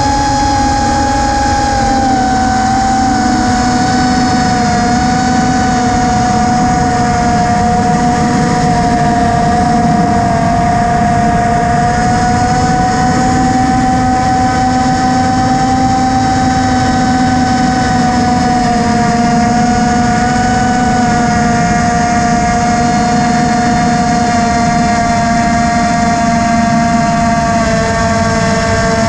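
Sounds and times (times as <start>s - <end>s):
model aircraft motor whining: 0.0s - 29.0s
wind rumble on microphone: 0.0s - 29.0s.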